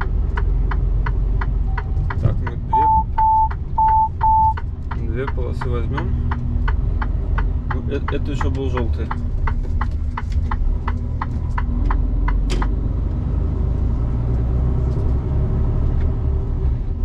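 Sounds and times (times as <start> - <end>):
turn signal ticking: 0.0 - 14.5
diesel engine rumble: 0.0 - 17.0.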